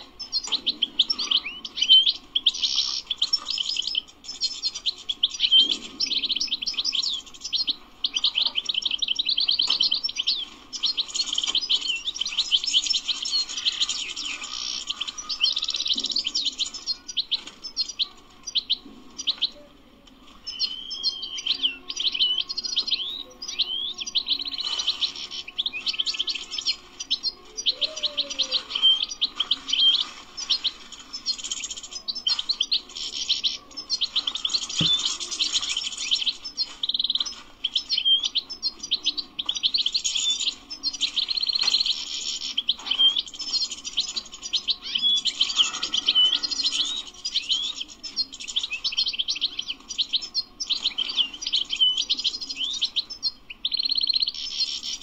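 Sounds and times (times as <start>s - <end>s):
bird twittering song: 0.0s - 19.7s, 20.4s - 55.0s.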